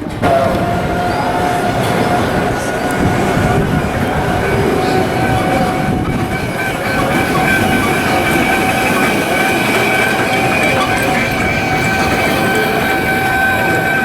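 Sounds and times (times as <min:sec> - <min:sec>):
tram wheels rumbling on boardwalk: 0:00.0 - 0:14.0
steady whine: 0:00.1 - 0:14.0.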